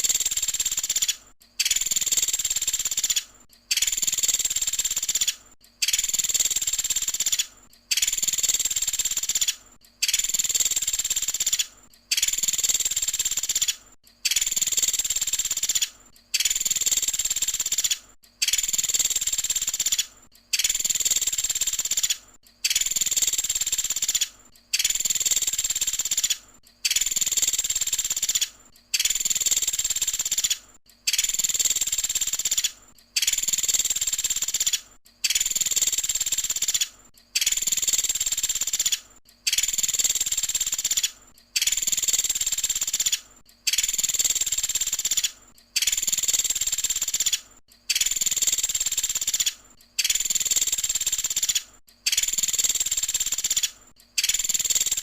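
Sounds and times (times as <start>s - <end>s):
woodpecker rapid-fire call: 0.0s - 55.0s.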